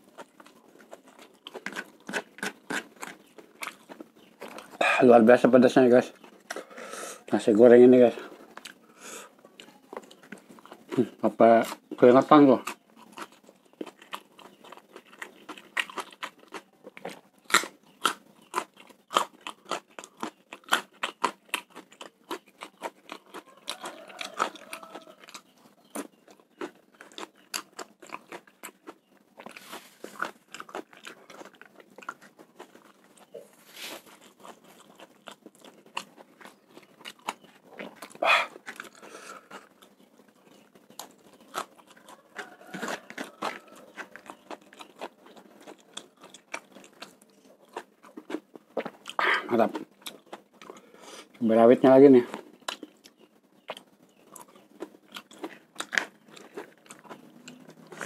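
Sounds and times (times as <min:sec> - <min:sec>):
close chewing and crunching: 0:00.0 - 0:58.0.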